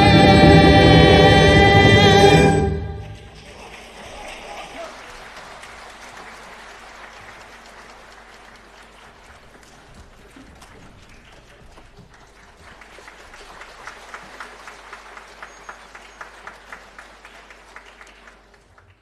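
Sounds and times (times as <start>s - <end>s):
audience applauding: 2.8s - 19.0s
loud claps: 3.0s - 19.0s.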